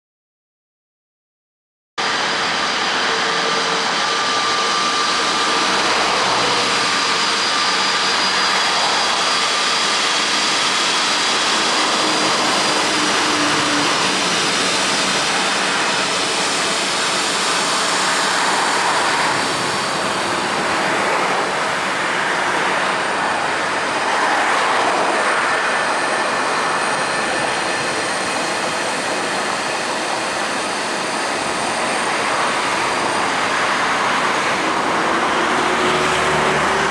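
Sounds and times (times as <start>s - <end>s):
jet engines roaring: 2.0s - 36.9s
thin engine whine: 2.0s - 36.9s.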